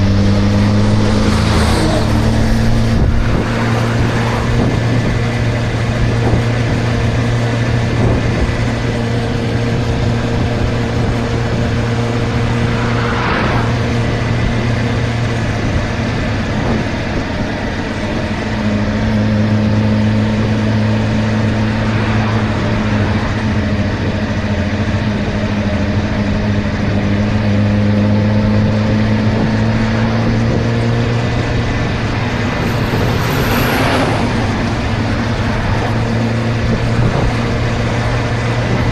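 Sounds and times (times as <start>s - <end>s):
wind rush: 0.0s - 25.5s, 28.0s - 38.9s
motorcycle engine running: 0.0s - 38.9s.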